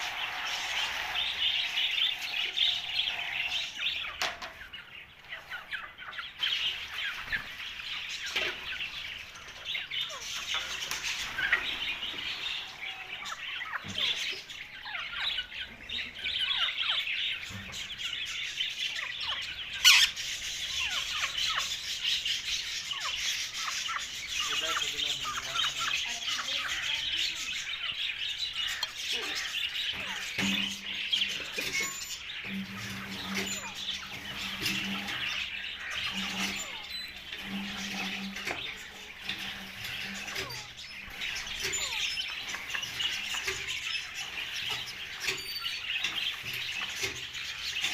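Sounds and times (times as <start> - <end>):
parakeet chirping: 0.0 - 47.9.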